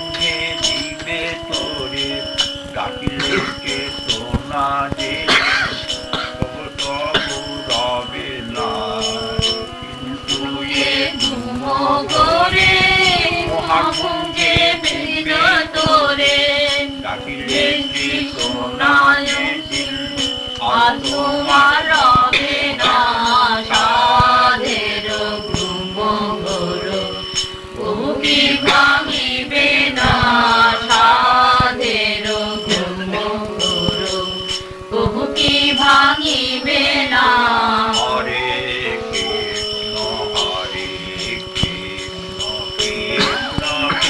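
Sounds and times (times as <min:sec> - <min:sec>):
devotional singing: 0:00.0 - 0:44.0
steady held notes: 0:00.0 - 0:44.0.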